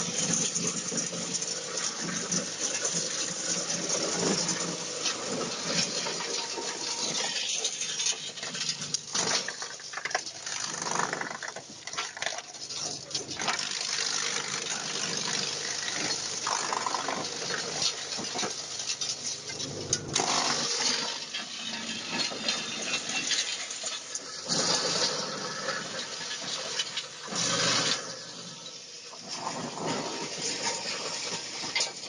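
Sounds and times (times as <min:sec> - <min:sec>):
material rattling through mill: 0:00.0 - 0:32.0
wood mill motor hum: 0:00.0 - 0:32.0.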